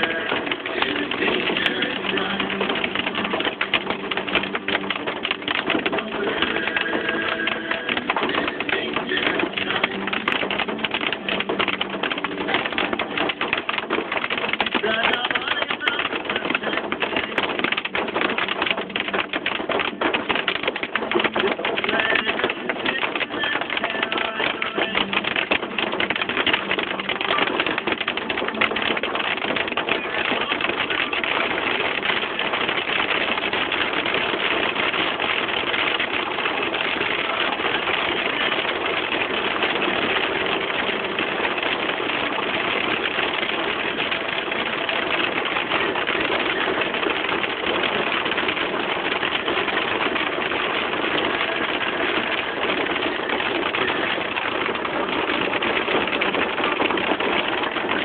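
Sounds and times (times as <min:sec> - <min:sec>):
hail clattering on car roof: 0:00.0 - 0:58.0.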